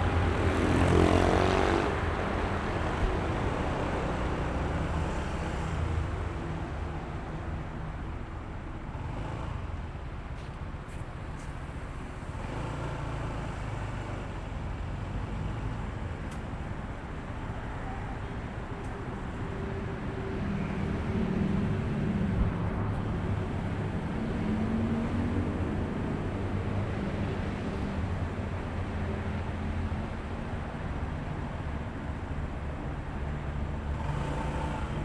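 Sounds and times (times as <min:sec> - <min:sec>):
wind and road noise: 0:00.0 - 0:35.0.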